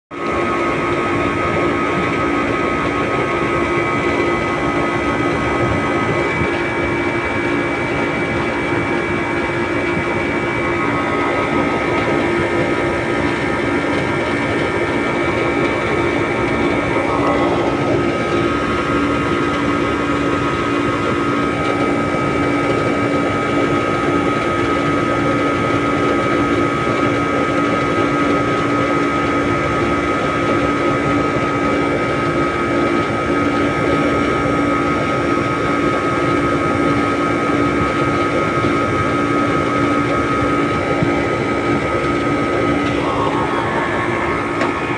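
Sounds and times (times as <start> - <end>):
steady whine: 0.1 - 44.9
air conditioning unit humming: 0.2 - 44.9.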